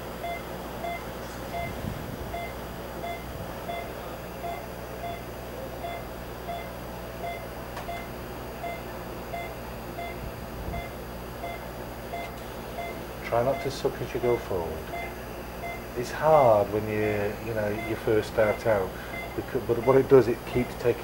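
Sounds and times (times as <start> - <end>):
low room hum: 0.0 - 21.0
pulse oximeter beeping: 0.2 - 20.9.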